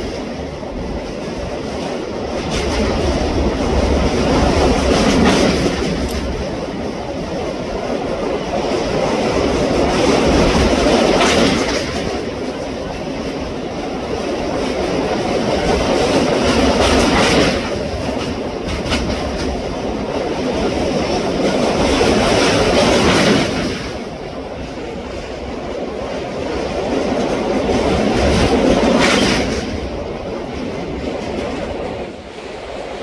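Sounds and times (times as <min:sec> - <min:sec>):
train running on rails: 0:00.0 - 0:33.0.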